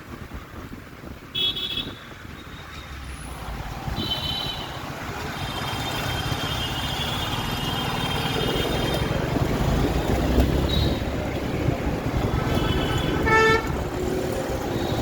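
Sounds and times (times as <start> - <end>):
road traffic: 0.0 - 15.0
wind rumbling on microphone: 0.0 - 15.0.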